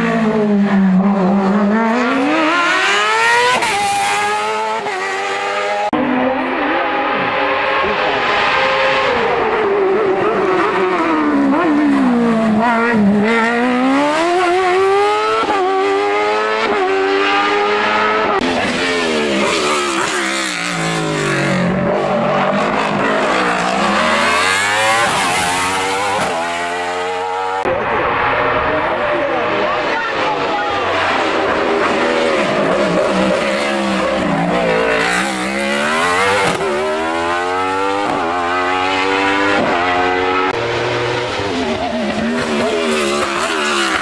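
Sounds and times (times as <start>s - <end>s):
race car engine accelerating: 0.0s - 44.0s.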